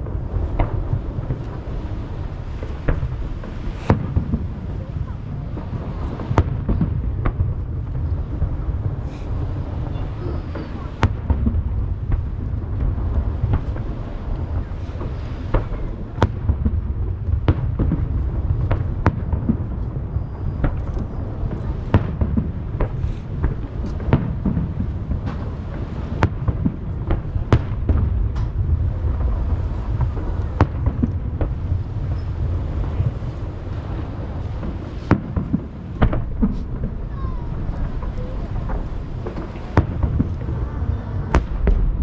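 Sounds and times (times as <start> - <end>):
fireworks bursting: 0.0 - 42.0
steady low rumble: 0.0 - 42.0.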